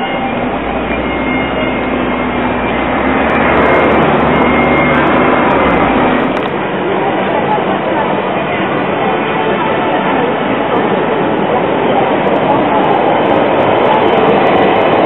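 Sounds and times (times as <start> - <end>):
city street traffic: 0.0 - 15.0
tram running with low hum: 0.0 - 15.0.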